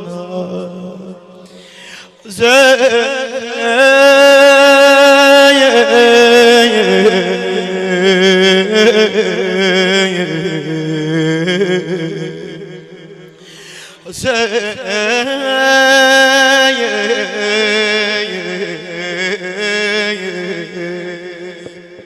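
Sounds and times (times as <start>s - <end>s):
man singing a lament: 0.0s - 22.0s.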